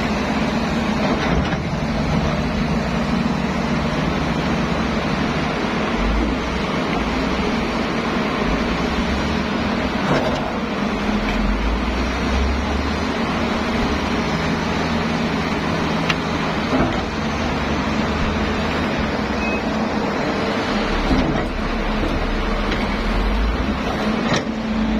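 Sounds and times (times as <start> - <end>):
heavy machinery engine drone: 0.0 - 24.9.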